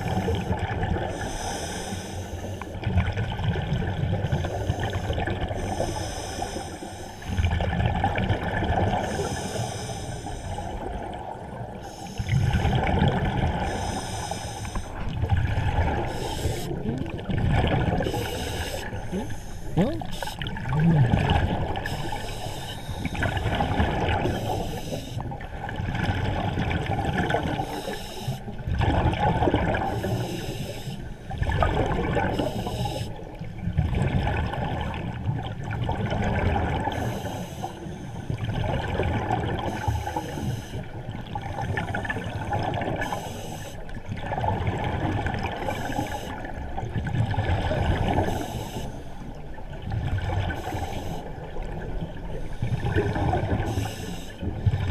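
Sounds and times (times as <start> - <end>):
scuba regulator bubbles: 0.0 - 54.9.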